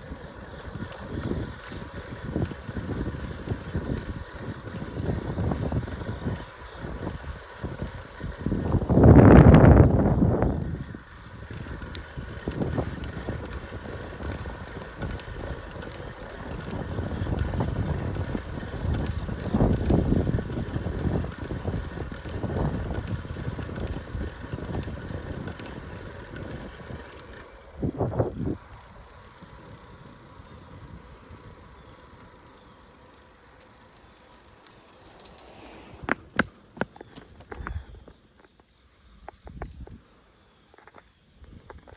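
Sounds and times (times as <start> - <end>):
wind buffeting: 0.0 - 38.1.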